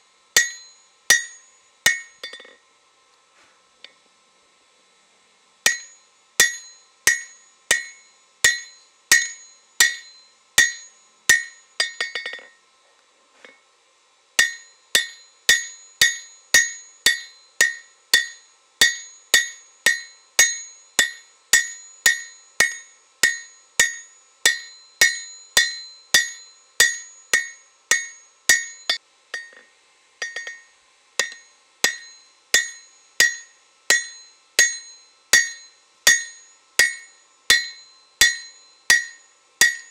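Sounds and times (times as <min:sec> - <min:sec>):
hammer striking anvil: 0:00.4 - 0:02.6, 0:05.7 - 0:12.6, 0:14.4 - 0:39.9.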